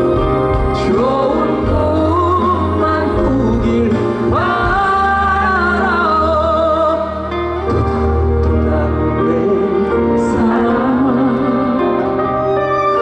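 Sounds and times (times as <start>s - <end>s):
man singing a slow song: 0.0s - 7.6s, 8.4s - 12.5s
band accompaniment: 0.0s - 13.0s.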